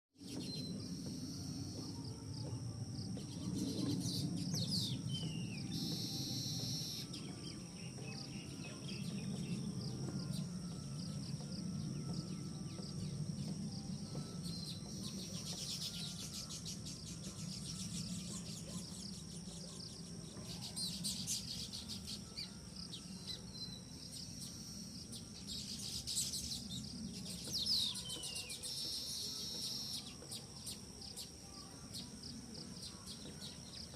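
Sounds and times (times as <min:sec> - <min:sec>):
high-pitched insect drone: 0:00.2 - 0:33.9.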